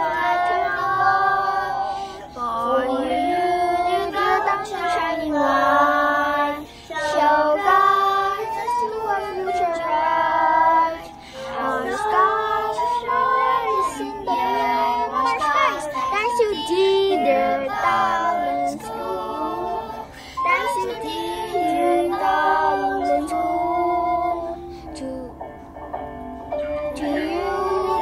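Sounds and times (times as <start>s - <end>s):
children singing in unison: 0.0s - 24.6s, 26.7s - 28.0s.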